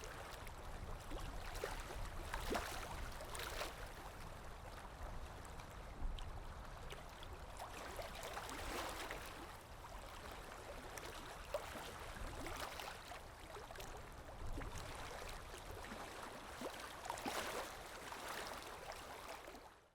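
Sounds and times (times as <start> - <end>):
sea waves lapping and splashing: 0.0 - 19.7.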